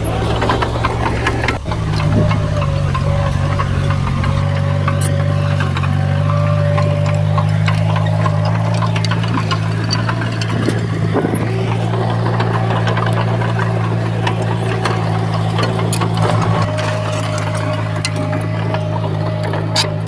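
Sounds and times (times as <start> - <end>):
clicks and clanks: 0.0 - 20.0
diesel construction machinery running: 0.0 - 20.0.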